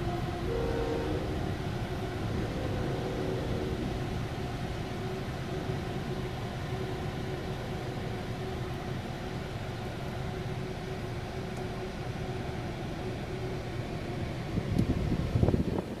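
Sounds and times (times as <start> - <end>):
muffled freight train rolling past: 0.0 - 16.0.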